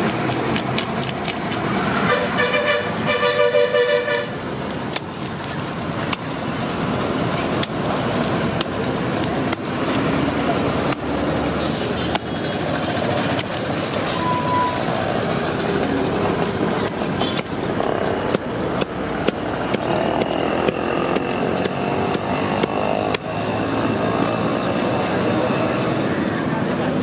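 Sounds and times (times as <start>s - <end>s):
fish scaler scraping scales: 0.0s - 3.5s, 4.5s - 26.0s
street noise: 0.0s - 27.0s.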